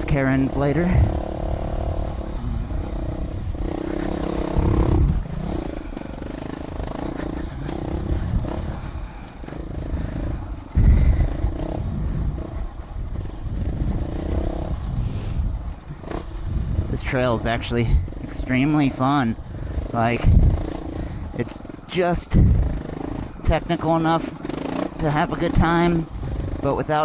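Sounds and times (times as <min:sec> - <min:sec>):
low rumble: 0:00.0 - 0:23.7
motorcycle engine revving: 0:00.0 - 0:27.0.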